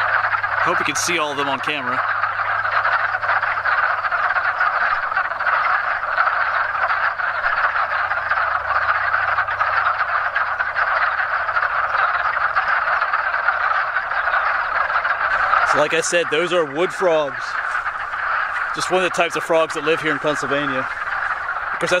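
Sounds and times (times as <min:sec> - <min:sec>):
chorus of frogs calling: 0:00.0 - 0:22.0.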